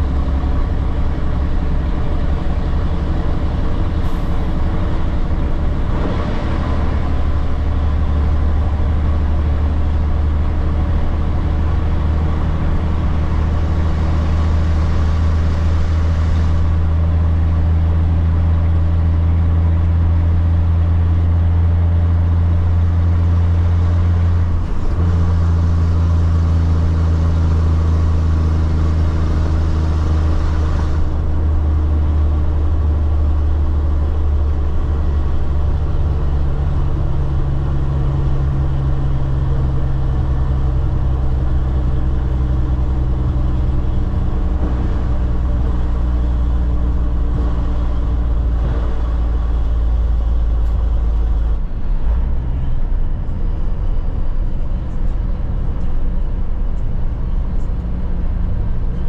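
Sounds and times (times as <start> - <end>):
diesel truck engine droning: 0.0 - 59.0
road noise: 0.0 - 59.0.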